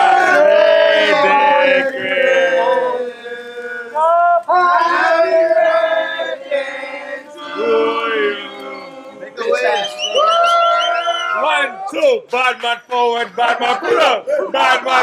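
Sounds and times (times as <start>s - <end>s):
group of voices singing: 0.0s - 11.7s, 13.0s - 15.0s.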